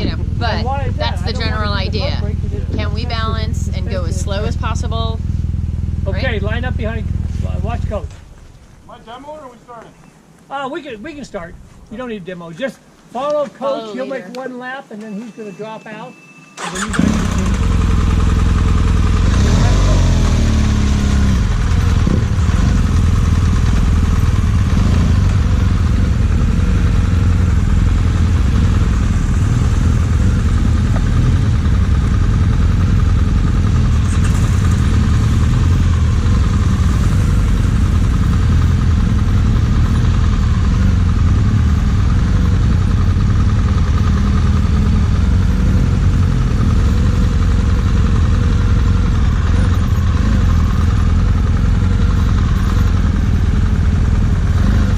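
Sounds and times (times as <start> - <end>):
motorcycle engine at low revs: 0.0 - 8.8, 16.6 - 54.9.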